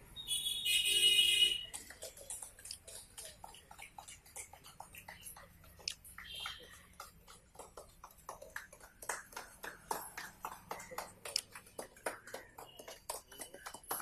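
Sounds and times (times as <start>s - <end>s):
people clapping unevenly: 1.4s - 14.0s.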